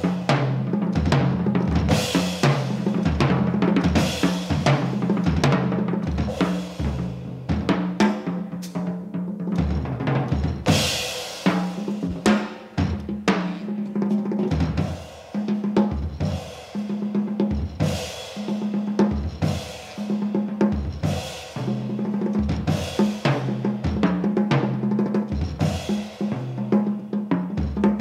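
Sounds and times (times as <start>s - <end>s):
jazz drum kit: 0.0s - 28.0s.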